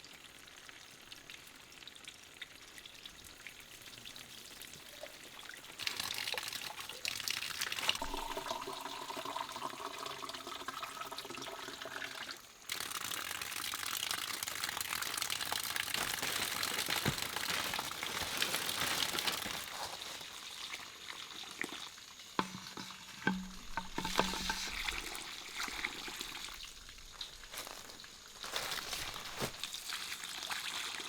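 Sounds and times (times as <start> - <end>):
water running and splashing: 0.0 - 31.0.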